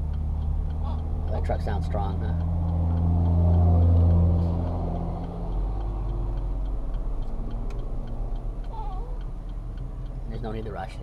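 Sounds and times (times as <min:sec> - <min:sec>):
truck engine passing: 0:00.0 - 0:11.0
turn signal ticking: 0:00.0 - 0:11.0.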